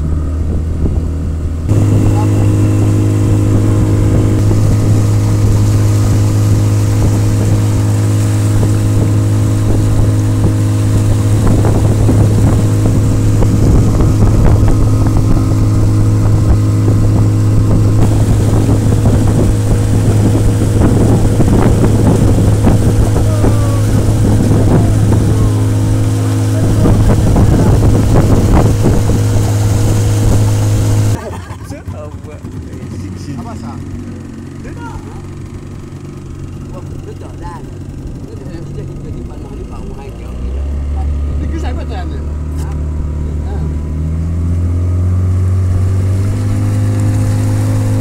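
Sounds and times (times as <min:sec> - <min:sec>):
outboard motor droning: 0:00.0 - 0:48.0
water splashing along hull: 0:00.0 - 0:48.0.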